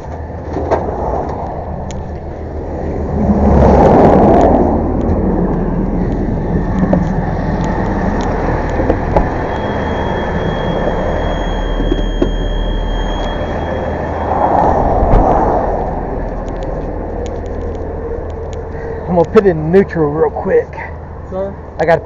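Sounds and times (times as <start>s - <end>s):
truck engine running: 0.0s - 20.0s
rushing swell: 0.8s - 20.2s
thin high whine: 1.5s - 20.6s.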